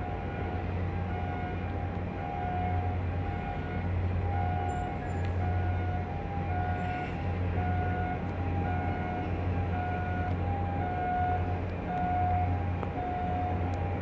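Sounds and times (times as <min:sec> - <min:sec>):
two-tone warning alarm: 0:00.1 - 0:14.0.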